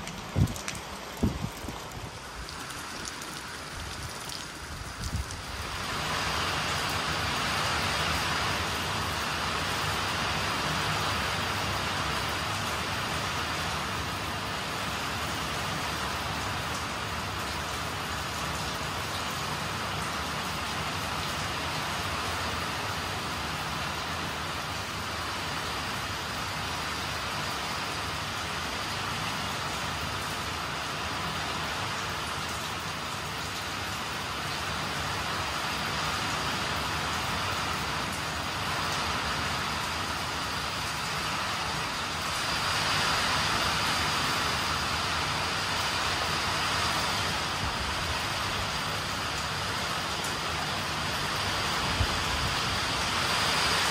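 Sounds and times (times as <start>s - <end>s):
heavy rain with wind: 0.0s - 53.9s.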